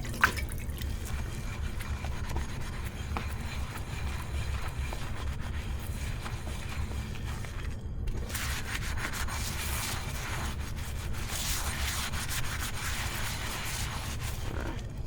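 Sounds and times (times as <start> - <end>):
dish being scrubbed: 0.0 - 15.0.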